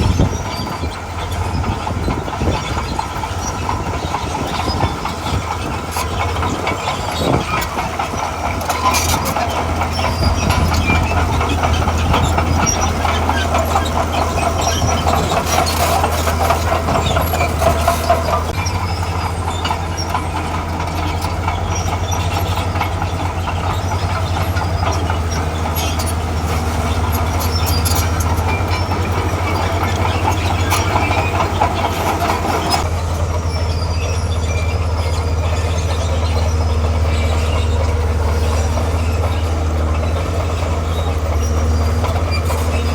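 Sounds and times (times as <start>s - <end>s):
diesel engine under load: 0.0s - 42.9s
steel tracks clanking: 0.0s - 42.9s.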